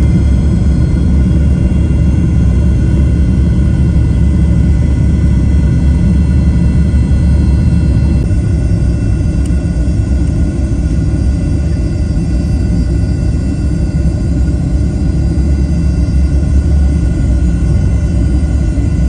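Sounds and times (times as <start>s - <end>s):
faint steady whine: 0.0s - 19.0s
jet airliner cabin rumble: 0.0s - 19.0s.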